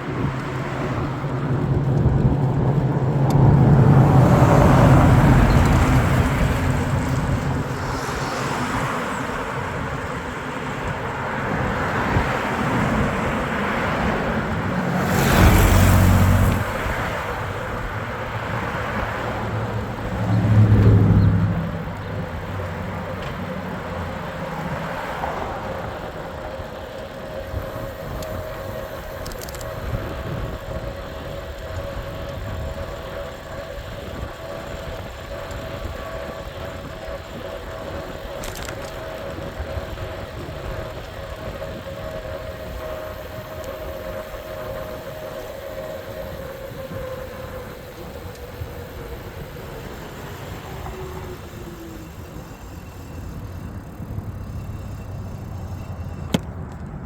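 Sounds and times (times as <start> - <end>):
electric motor whine: 0.0 - 57.0
wind and road noise: 0.0 - 57.0.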